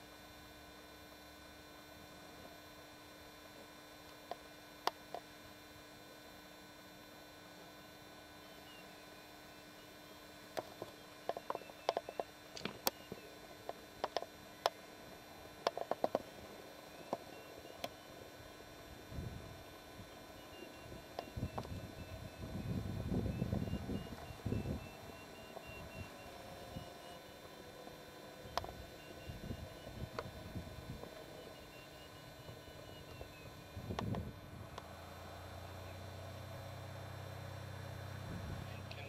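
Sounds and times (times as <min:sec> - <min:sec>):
faint electrical hum: 0:00.0 - 0:39.0.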